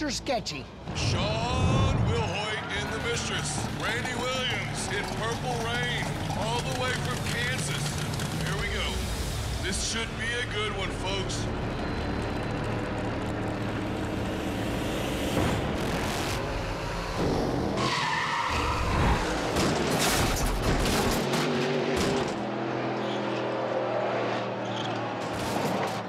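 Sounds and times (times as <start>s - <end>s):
race cars at full throttle: 0.0s - 26.0s
tyres skidding and squealing: 0.8s - 26.0s.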